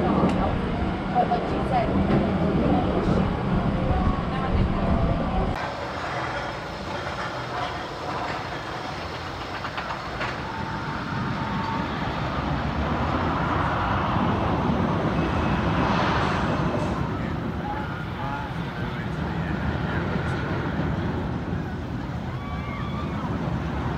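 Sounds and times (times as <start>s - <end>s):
roller coaster rumbling on track: 0.0s - 23.9s.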